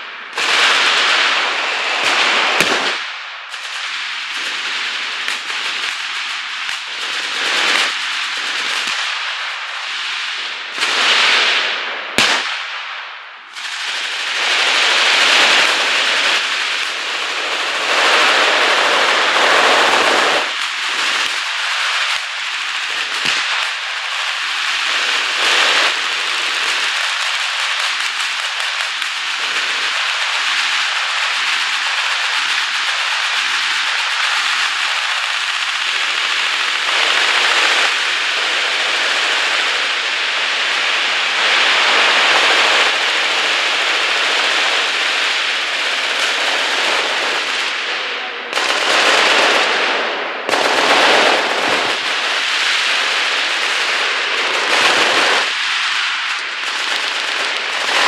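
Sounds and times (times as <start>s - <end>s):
machine guns firing: 0.0s - 12.8s, 13.5s - 47.9s, 48.5s - 58.0s.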